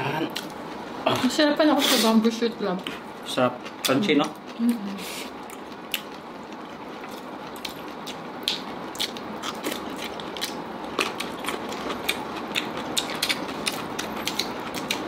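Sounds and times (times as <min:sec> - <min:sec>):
people chewing: 0:00.0 - 0:01.3, 0:03.6 - 0:15.0.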